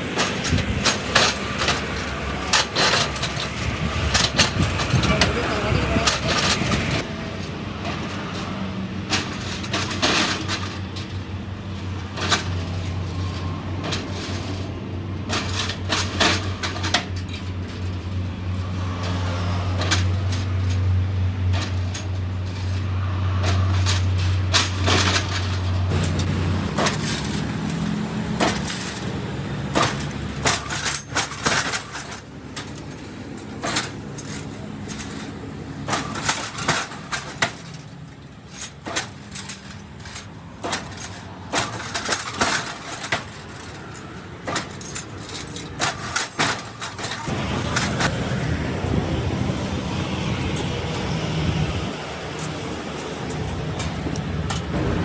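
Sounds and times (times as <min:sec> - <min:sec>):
tools clinking and knocking: 0:00.0 - 0:55.0.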